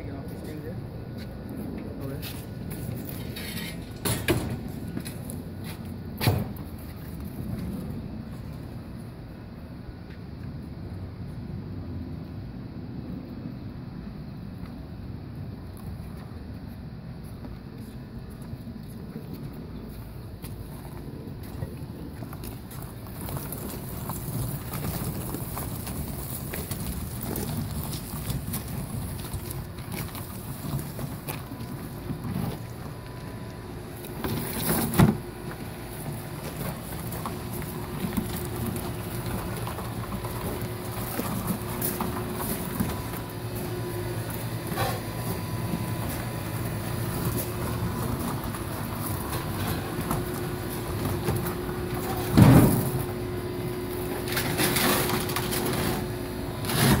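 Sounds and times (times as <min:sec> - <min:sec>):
hand truck rolling over gravel: 0:00.0 - 0:11.0, 0:14.6 - 0:57.0.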